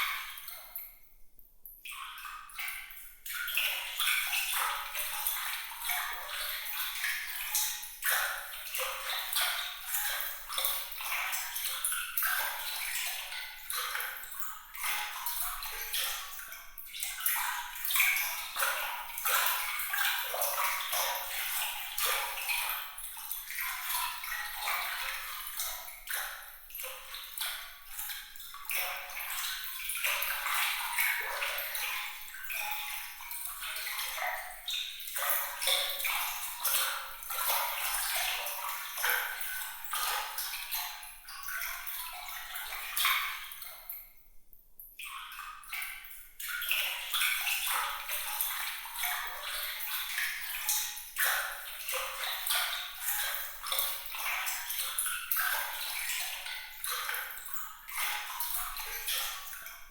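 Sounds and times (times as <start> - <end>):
water trickling and splashing: 0.0 - 44.2, 45.0 - 59.9.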